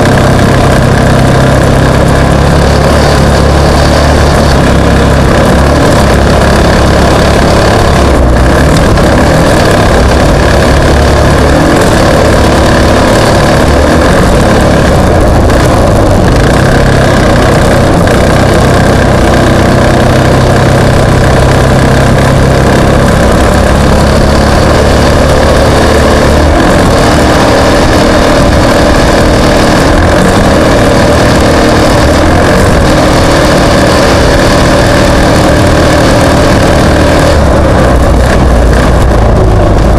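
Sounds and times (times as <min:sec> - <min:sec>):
race vehicle engines revving: 0:00.0 - 0:39.9.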